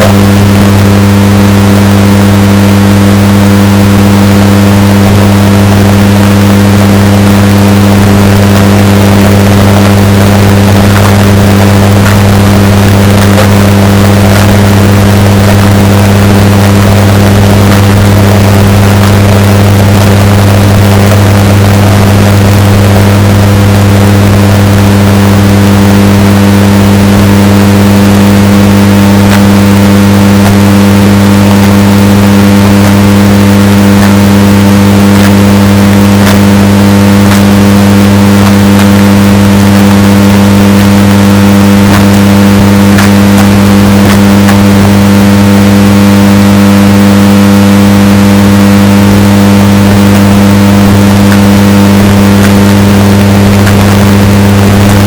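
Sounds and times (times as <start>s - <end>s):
distorted washing machine hum: 0.0s - 55.0s.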